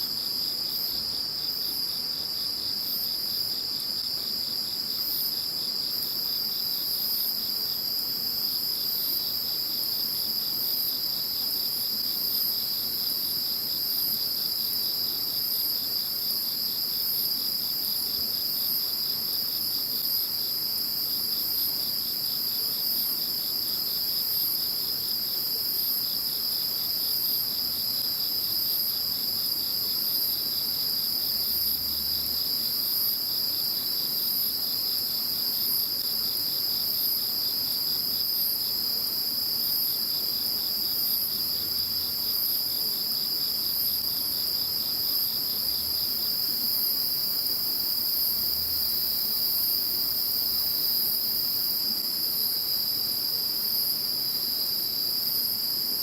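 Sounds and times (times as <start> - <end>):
insects chirping: 0.0 - 55.8.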